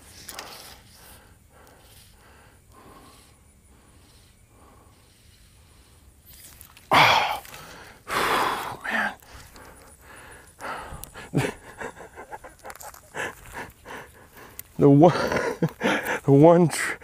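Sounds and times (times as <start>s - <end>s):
man breathing heavily: 0.0s - 6.2s, 6.9s - 17.0s.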